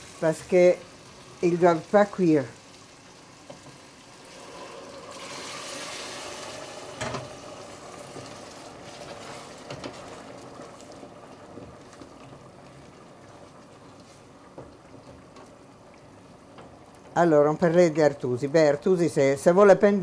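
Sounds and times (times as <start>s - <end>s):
liquid hissing and bubbling in pan: 0.0s - 17.9s.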